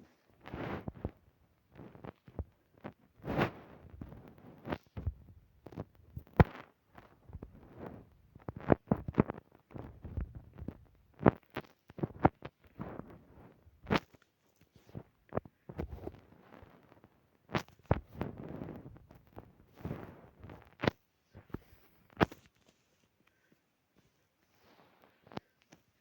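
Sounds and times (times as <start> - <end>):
rustling: 0.0 - 26.0.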